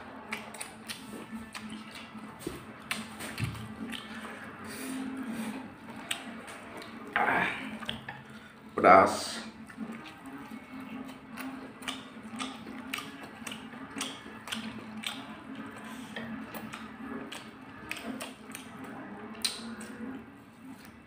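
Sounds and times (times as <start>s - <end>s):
person chewing food: 0.0s - 8.8s, 9.4s - 21.0s.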